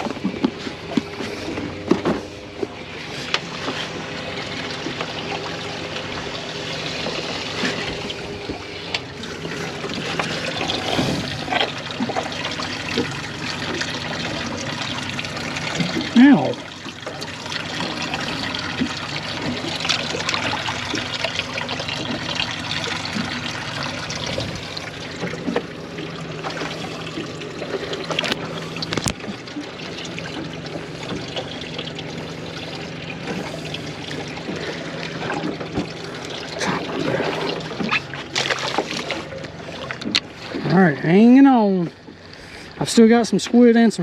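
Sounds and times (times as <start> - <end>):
low hum: 0.0 - 44.0
water lapping around boat: 0.0 - 44.0.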